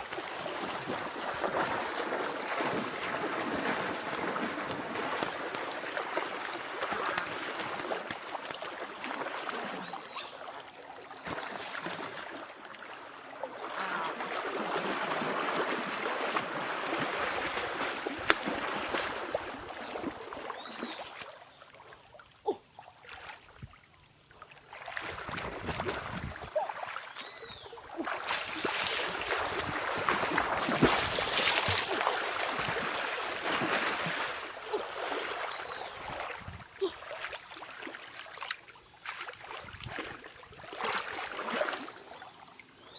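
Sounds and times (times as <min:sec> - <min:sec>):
water sloshing and splashing: 0:00.0 - 0:42.8.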